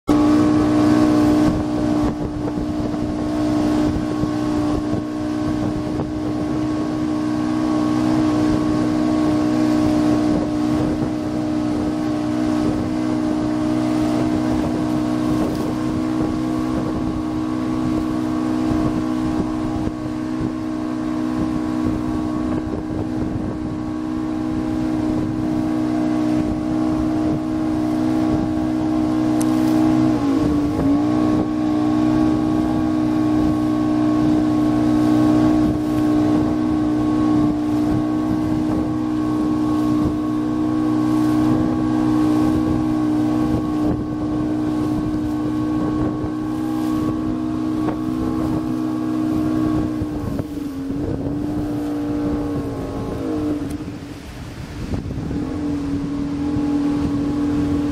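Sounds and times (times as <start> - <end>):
boat motor humming: 0.0 - 57.9
water rushing: 0.0 - 57.9
wind on microphone: 0.1 - 57.9.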